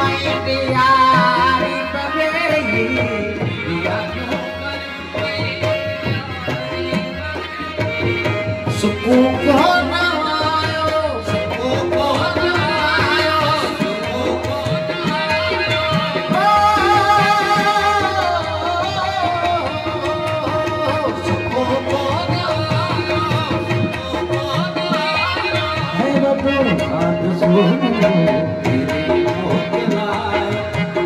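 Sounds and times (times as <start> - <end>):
harmonium melody: 0.0 - 31.0
man singing: 0.0 - 31.0.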